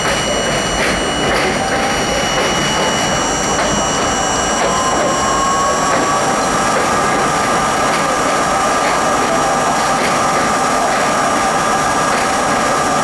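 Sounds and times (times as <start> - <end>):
subway train rumble and clatter: 0.0 - 13.0
thin train whine: 0.0 - 13.0.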